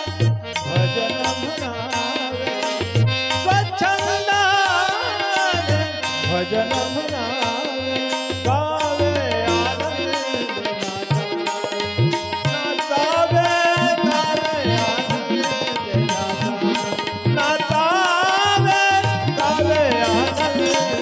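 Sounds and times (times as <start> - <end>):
held notes: 0.0 - 21.0
ornamented melody line: 0.0 - 21.0.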